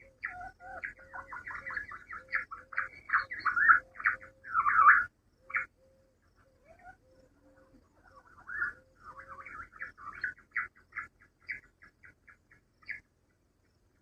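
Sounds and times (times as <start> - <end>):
quail chirping: 0.0 - 13.1.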